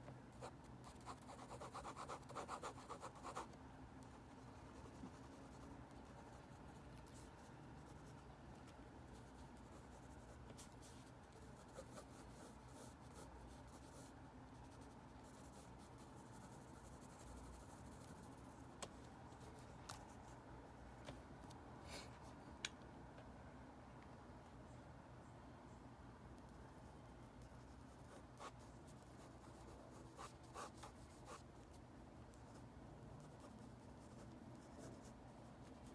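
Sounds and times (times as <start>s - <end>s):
low steady hum: 0.0s - 35.9s.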